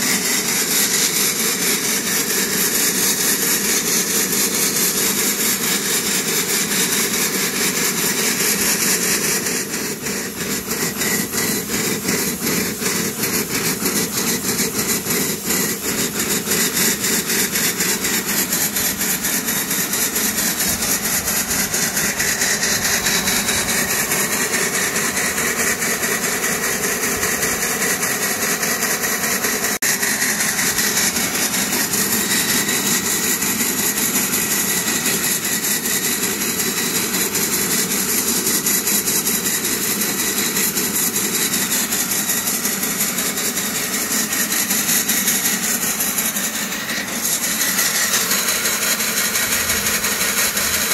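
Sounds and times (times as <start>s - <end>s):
steam exhaust chuffs: 0.0s - 50.9s
steam hissing: 0.0s - 50.9s.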